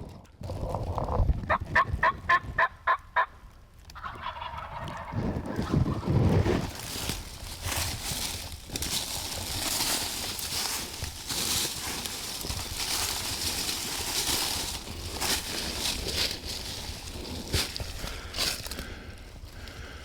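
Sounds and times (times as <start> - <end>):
footsteps in dry leaves: 4.0 - 20.0.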